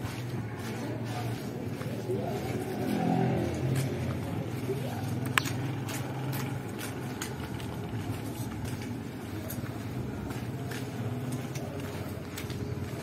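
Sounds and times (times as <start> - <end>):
footsteps on paved street: 0.0 - 13.0.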